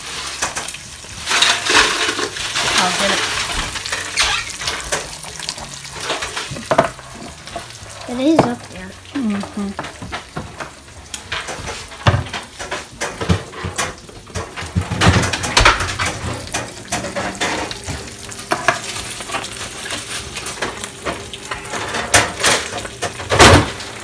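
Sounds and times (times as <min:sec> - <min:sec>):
eggs sizzling in a skillet: 0:00.0 - 0:24.0
clinks of pans and utensils: 0:00.1 - 0:23.8.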